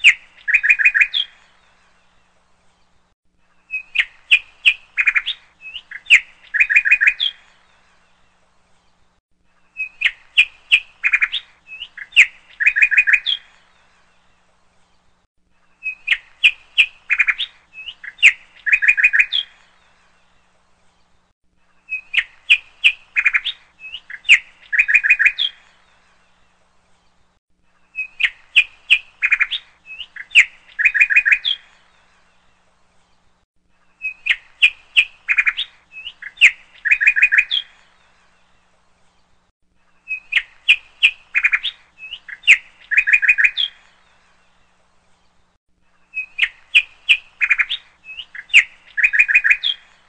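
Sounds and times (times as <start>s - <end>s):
small songbird chirping and trilling: 0.0s - 50.0s.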